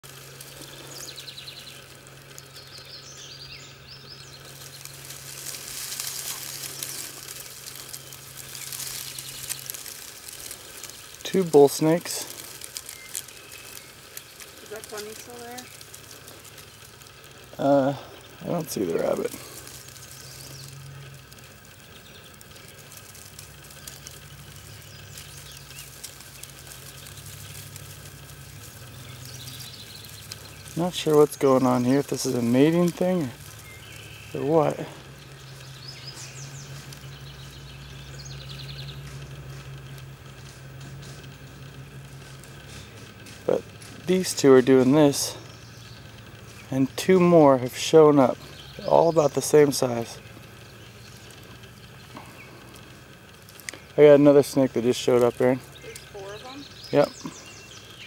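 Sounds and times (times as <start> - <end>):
bird chirping: 0.0 - 58.0
dry leaves rustling: 0.0 - 58.0
low steady hum: 0.0 - 58.0.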